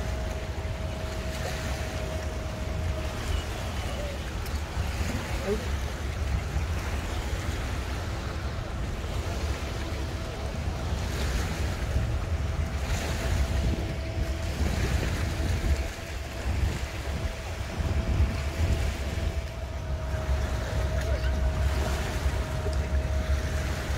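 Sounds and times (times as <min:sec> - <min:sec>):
faint steady hum: 0:00.0 - 0:23.9
lake water washing: 0:00.0 - 0:23.9
wind buffeting microphone: 0:00.0 - 0:23.9.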